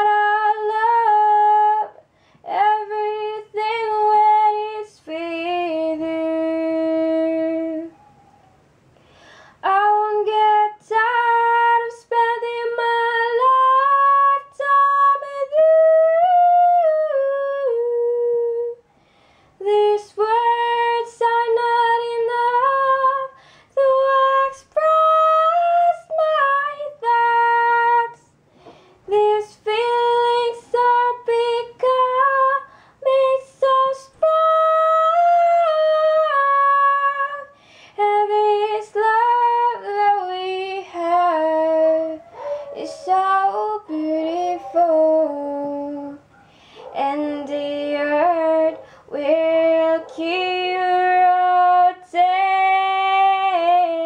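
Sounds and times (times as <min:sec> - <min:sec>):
woman singing unaccompanied: 0:00.0 - 0:08.2, 0:09.6 - 0:18.9, 0:19.6 - 0:54.0.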